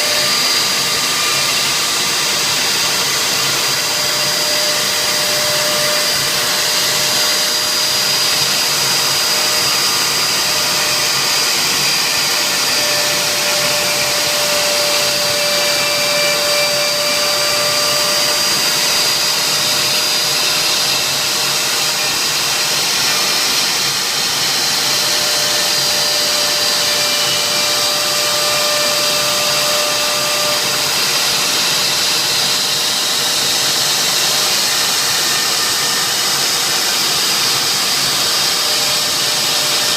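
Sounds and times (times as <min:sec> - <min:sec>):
router spindle hiss and whine: 0:00.0 - 0:39.9.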